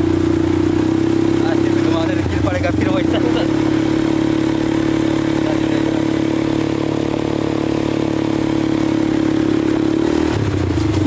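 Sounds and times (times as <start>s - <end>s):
atv engine running steadily: 0.0s - 11.0s.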